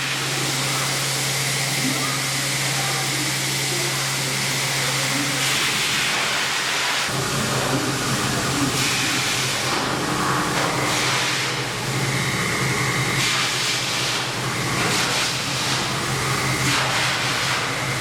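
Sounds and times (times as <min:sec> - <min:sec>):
milling machine hum: 0:00.0 - 0:18.0.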